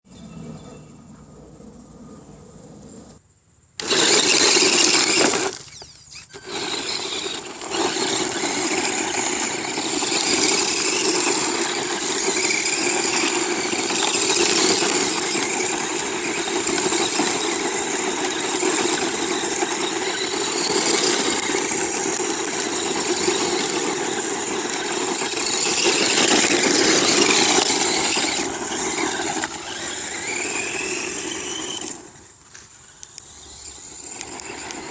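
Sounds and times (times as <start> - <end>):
rc truck motor running: 3.8 - 34.9.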